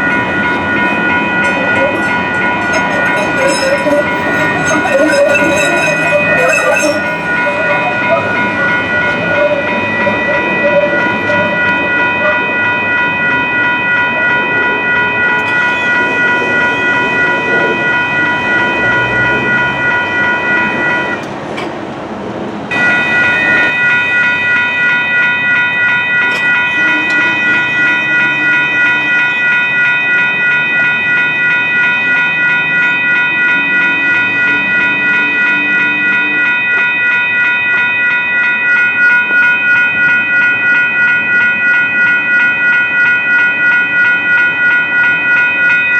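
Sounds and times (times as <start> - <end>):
crossing warning bells ringing: 0.0 - 45.9
train rumbling on rails: 0.0 - 45.9.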